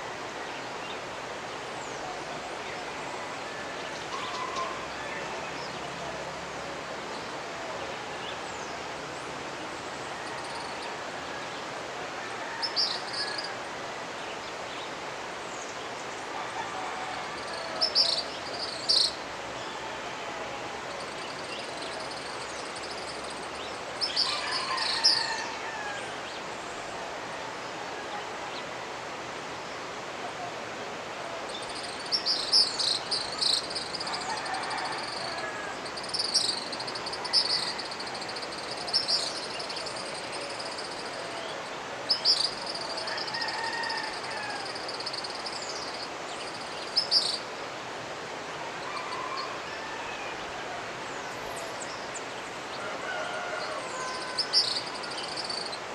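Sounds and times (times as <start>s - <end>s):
mountain river rushing: 0.0s - 55.9s.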